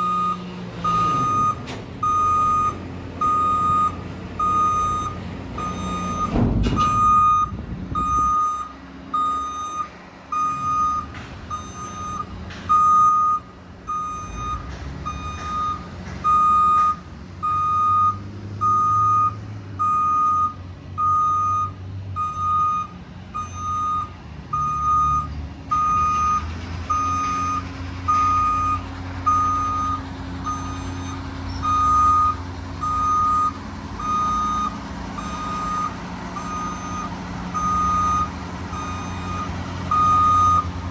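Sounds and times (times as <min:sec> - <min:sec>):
truck backup alarm beeping: 0:00.0 - 0:40.9
truck engine running low: 0:00.0 - 0:40.9.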